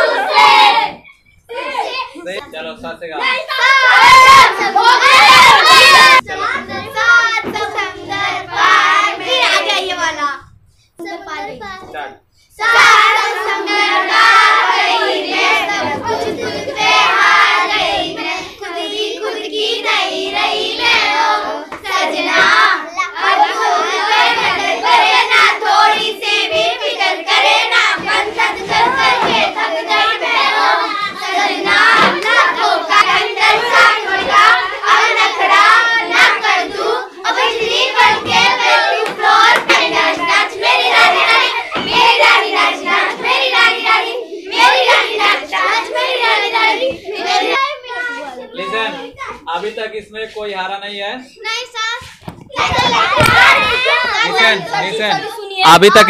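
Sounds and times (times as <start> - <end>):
children singing together: 0.0 - 2.1, 3.3 - 10.4, 12.6 - 49.1, 52.0 - 55.5.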